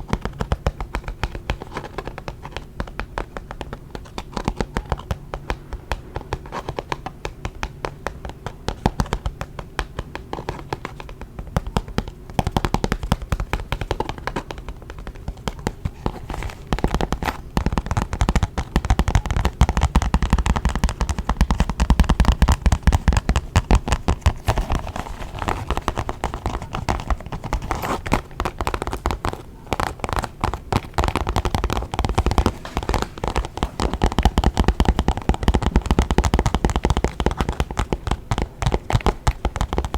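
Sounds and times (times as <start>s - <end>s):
fingers tapping on makeup bag: 0.0s - 39.9s.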